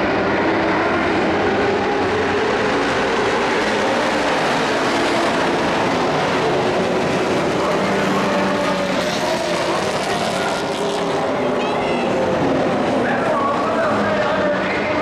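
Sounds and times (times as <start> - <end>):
race truck engines droning: 0.0 - 15.0.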